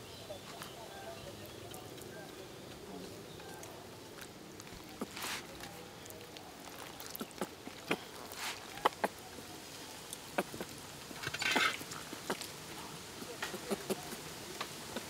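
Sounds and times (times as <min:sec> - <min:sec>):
wet clicks and ticks: 0:00.4 - 0:15.0.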